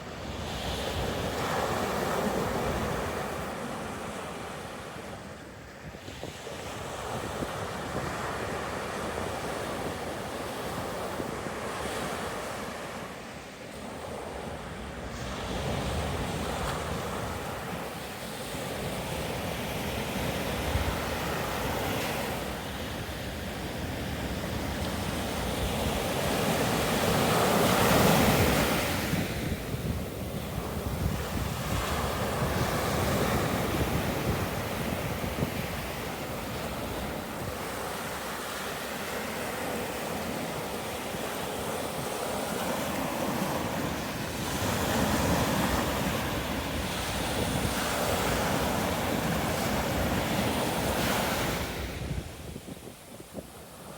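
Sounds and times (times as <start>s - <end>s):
ocean surf washing onto beach: 0.0s - 53.9s
wind buffeting microphone: 5.0s - 12.9s, 14.0s - 53.9s.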